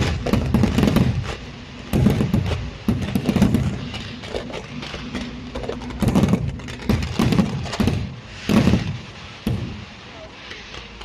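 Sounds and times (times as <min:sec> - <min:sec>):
firework shells booming: 0:00.0 - 0:11.0
fireworks crackling pops: 0:00.0 - 0:11.0.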